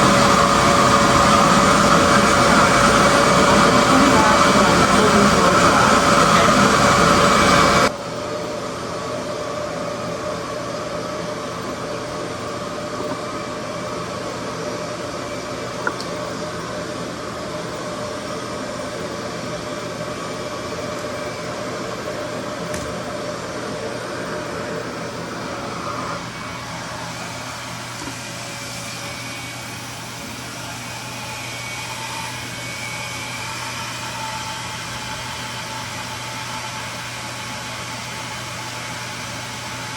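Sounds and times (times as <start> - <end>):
hair dryer whirring: 0.0 - 39.9.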